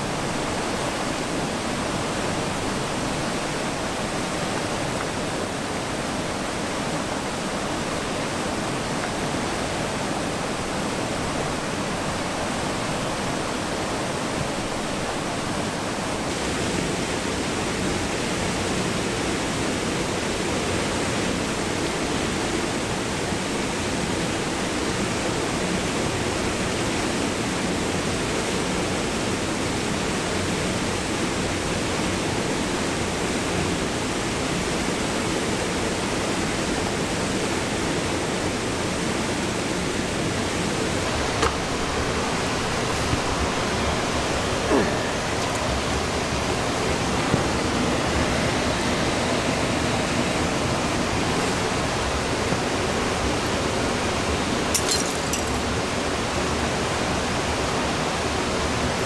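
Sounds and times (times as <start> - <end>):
small waterfall rushing: 0.0 - 59.0.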